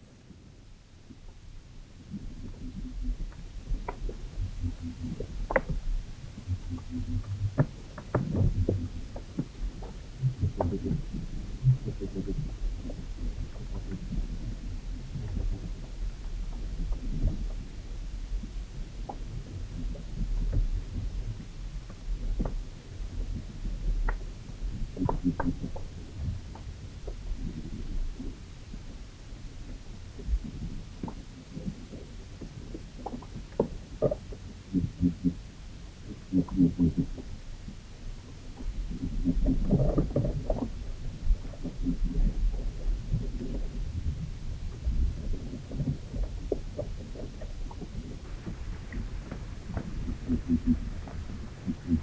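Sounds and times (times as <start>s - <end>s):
underwater rumble: 0.0s - 52.0s
low throbbing underwater groans: 2.0s - 52.0s.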